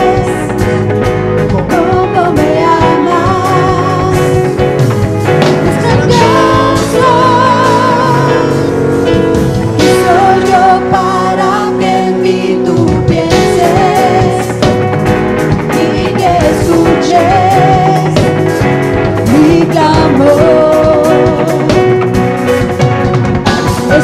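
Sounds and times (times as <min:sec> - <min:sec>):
group singing worship song: 0:00.0 - 0:22.1, 0:23.4 - 0:24.0
electric guitar chords: 0:00.0 - 0:24.0
keyboard chords: 0:00.0 - 0:24.0
steady drum beat: 0:00.0 - 0:24.0.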